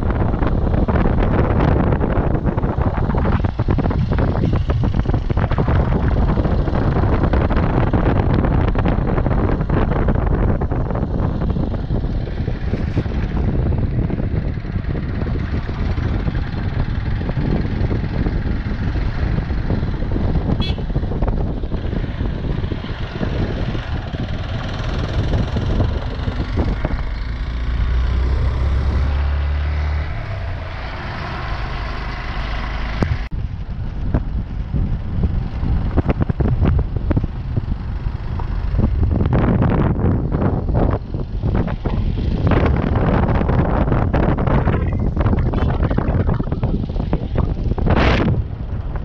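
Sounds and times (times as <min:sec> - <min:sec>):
motorcycle engine: 0:00.0 - 0:49.0
wind buffeting microphone: 0:00.0 - 0:49.0.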